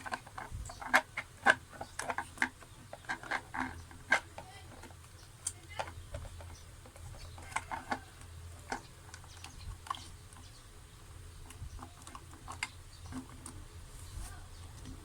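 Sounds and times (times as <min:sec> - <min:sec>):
plastic parts clicking and tapping: 0:00.0 - 0:10.5, 0:11.4 - 0:13.6.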